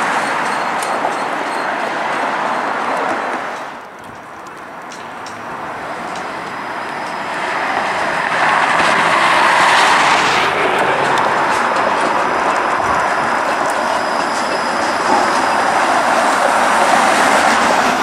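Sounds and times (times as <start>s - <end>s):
street traffic: 0.0s - 18.0s
streetcar approaching on rails: 0.0s - 18.0s.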